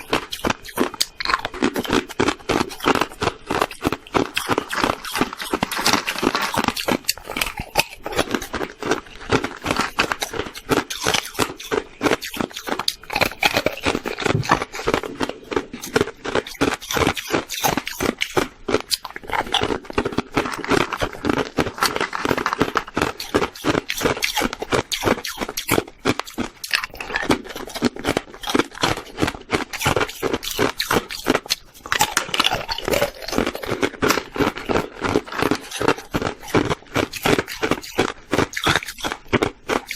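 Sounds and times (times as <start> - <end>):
ice being chewed and crunched: 0.0 - 39.9.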